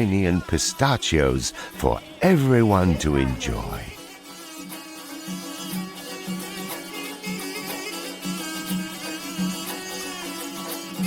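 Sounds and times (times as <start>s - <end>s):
middle eastern string melody: 0.0s - 11.0s.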